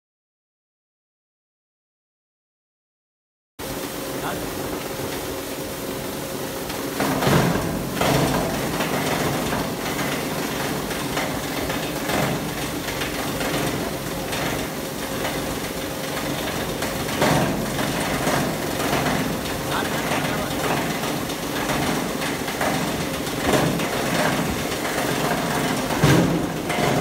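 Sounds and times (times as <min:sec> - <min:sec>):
plastic granulator humming: 0:03.6 - 0:27.0.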